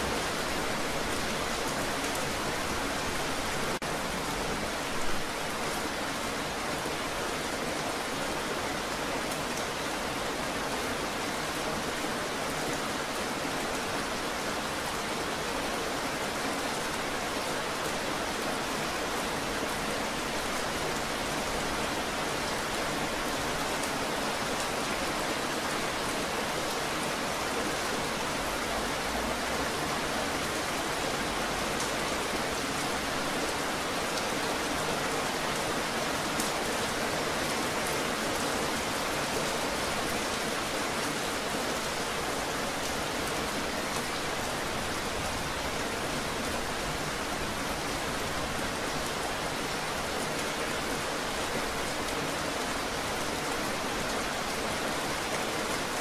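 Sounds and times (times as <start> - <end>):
rain falling on wet pavement: 0.0 - 56.0.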